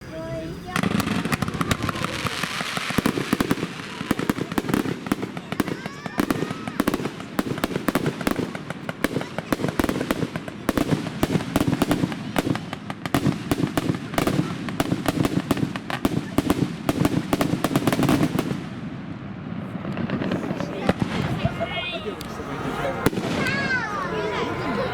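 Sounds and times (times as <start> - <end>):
fireworks crackling: 0.0 - 24.9.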